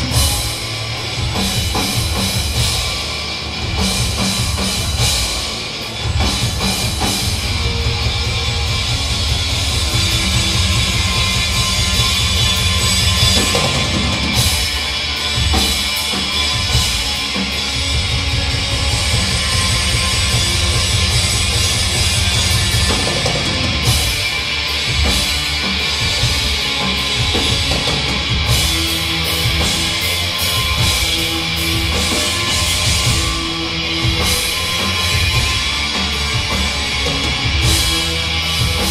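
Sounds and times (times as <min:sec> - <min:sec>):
bass guitar: 0:00.0 - 0:38.9
distorted electric guitar: 0:00.0 - 0:38.9
fast drum kit: 0:00.0 - 0:38.9.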